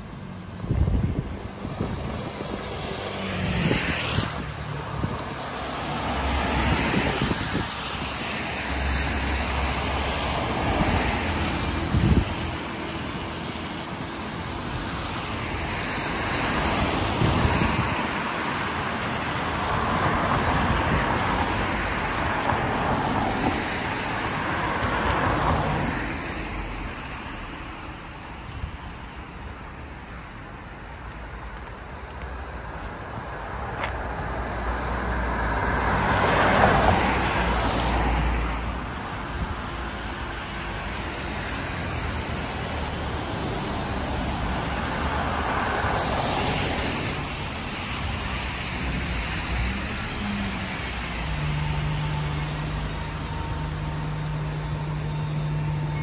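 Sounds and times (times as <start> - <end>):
cars passing on wet road: 0.0 - 56.0.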